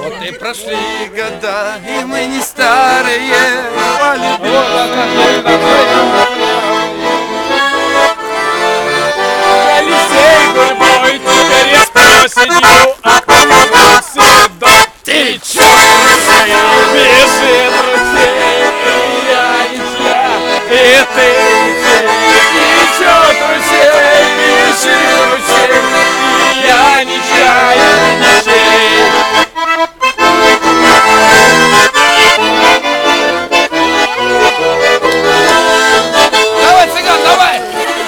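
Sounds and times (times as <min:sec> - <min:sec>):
button accordion playing a tune: 0:00.0 - 0:38.0.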